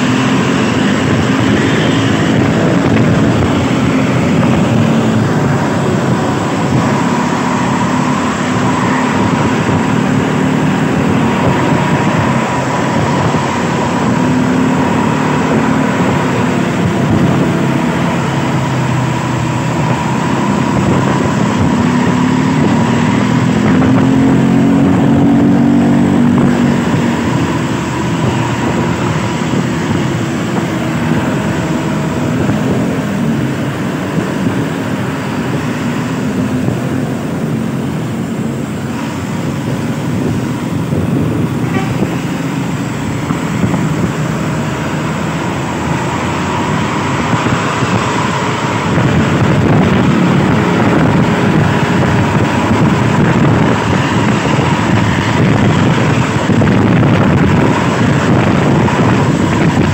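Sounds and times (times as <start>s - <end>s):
diesel engine revving: 0.0s - 59.9s
road traffic: 0.0s - 59.9s.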